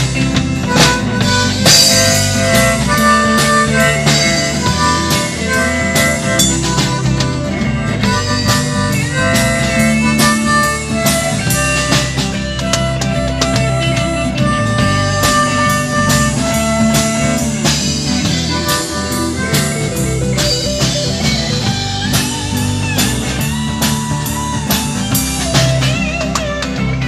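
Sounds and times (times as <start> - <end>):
bass: 0.0 - 27.0
drum kit: 0.0 - 27.0
sustained lead melody: 0.0 - 27.0.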